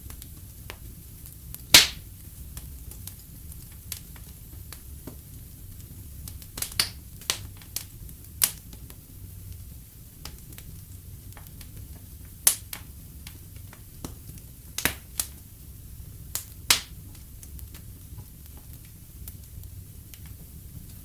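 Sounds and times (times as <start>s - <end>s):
wood fire crackling: 0.0s - 21.0s
sharp pops of fire: 0.1s - 9.6s, 10.2s - 15.5s, 16.2s - 21.0s.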